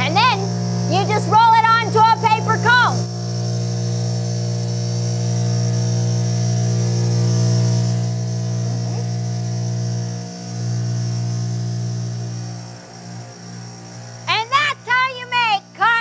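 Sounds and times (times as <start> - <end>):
cotton candy machine humming: 0.0 - 16.0.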